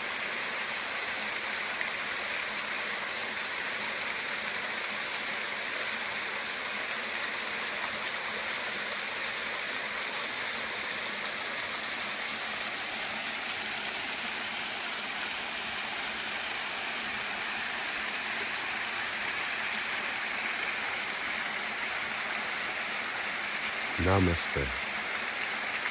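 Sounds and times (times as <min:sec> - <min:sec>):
waterfall cascading over rocks: 0:00.0 - 0:25.9.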